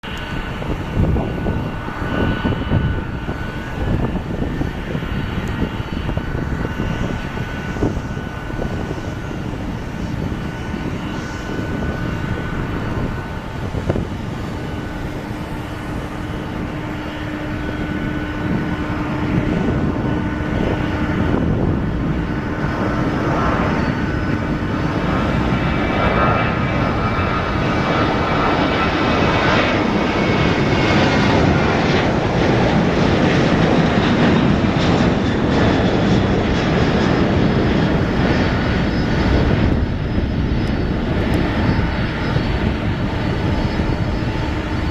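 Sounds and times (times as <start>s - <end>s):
jet engine roar with whine: 0.0s - 44.9s.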